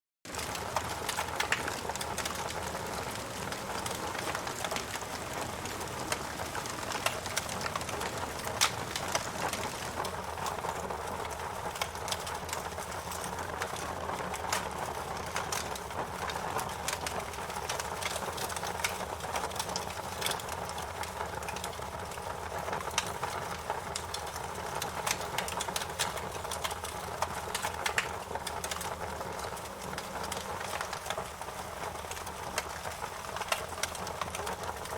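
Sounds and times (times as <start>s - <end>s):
fireplace fire crackling: 0.3s - 34.9s
sharp fire pops and snaps: 0.3s - 34.9s.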